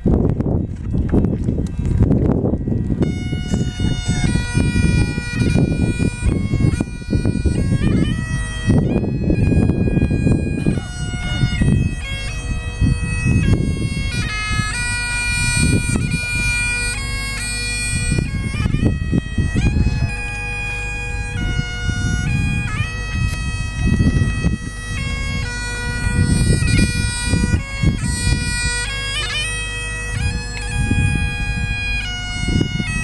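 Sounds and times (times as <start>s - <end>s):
bagpipes playing a tune: 0.0s - 33.0s
wind rumble on microphone: 0.0s - 33.0s.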